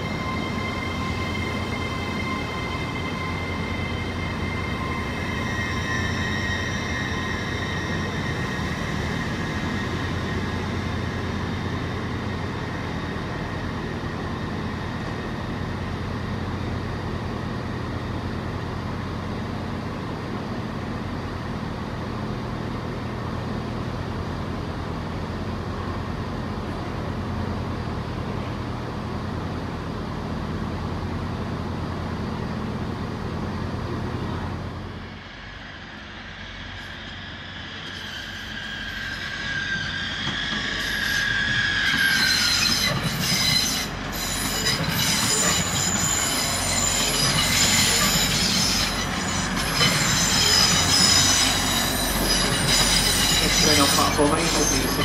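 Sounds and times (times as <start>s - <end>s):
train engine droning: 0.0s - 55.0s.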